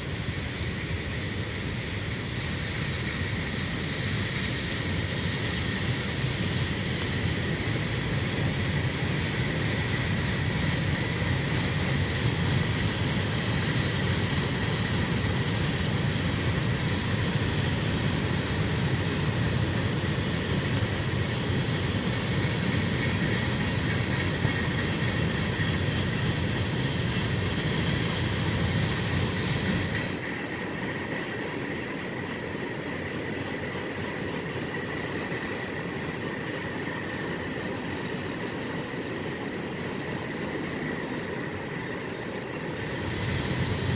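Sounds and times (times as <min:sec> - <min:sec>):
train wheels on rail: 0:00.0 - 0:43.9.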